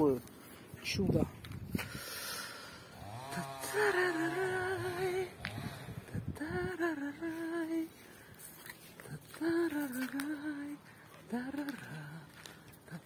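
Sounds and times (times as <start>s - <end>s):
long wavering vocal tones: 2.2s - 13.0s.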